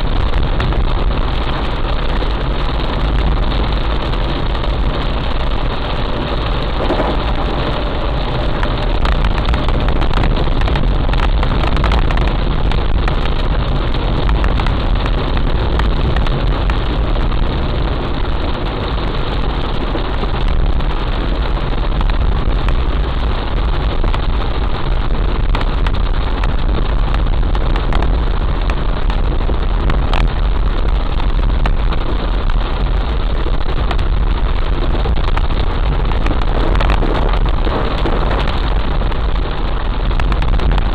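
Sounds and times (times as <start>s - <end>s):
heavy rain pouring: 0.0s - 40.9s
low rumble: 0.0s - 40.9s.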